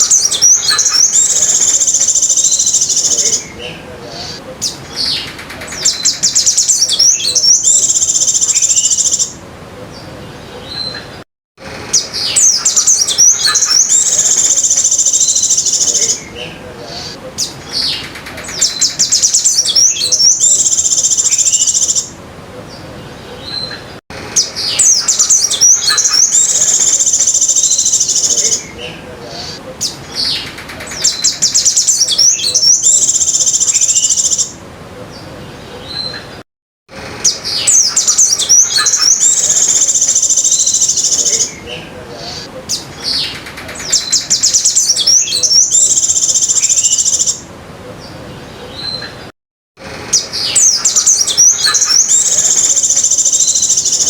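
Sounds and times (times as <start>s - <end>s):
songbird chirping and trilling: 0.0s - 54.0s.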